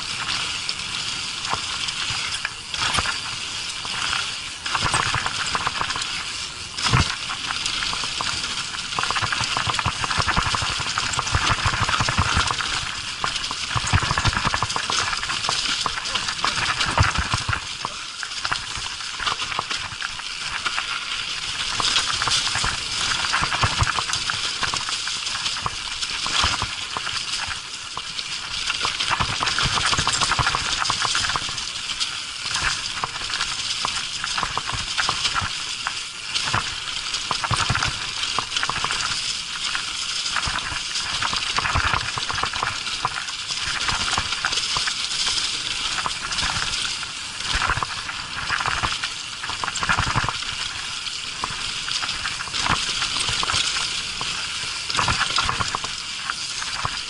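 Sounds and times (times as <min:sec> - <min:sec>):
bike knocking and rattling: 0:00.0 - 0:57.0
tyres hissing on dirt and leaves: 0:00.0 - 0:57.0.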